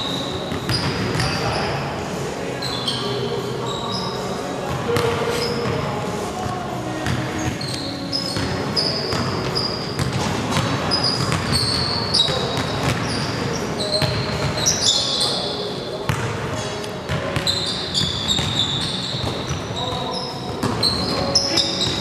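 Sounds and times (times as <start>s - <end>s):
sneakers squeaking: 0.0s - 1.9s, 2.5s - 22.0s
players' voices: 0.0s - 22.0s.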